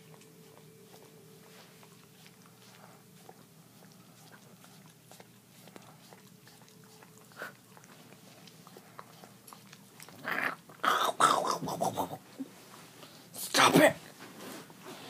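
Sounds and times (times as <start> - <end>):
dog licking and slobbering: 0.0 - 12.1.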